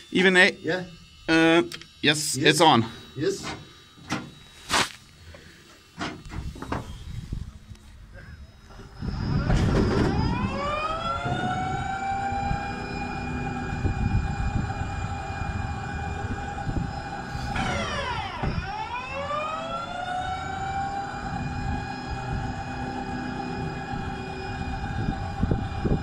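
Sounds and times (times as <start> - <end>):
turret drive whining: 0.0 - 26.0.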